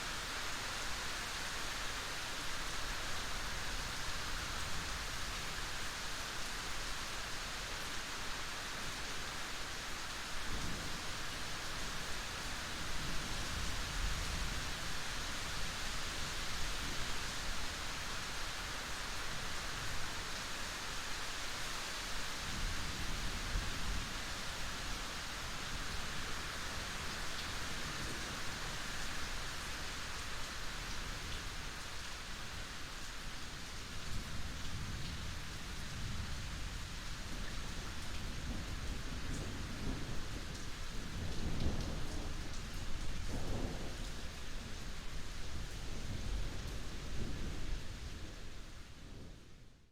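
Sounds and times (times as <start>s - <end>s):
heavy rain hissing: 0.0s - 49.6s.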